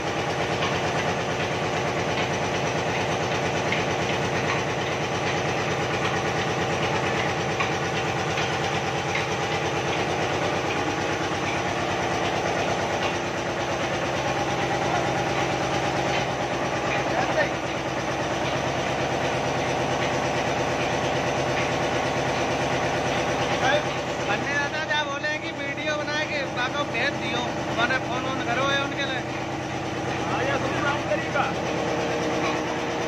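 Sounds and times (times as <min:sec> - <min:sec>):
oil expeller machine drone: 0:00.0 - 0:33.0.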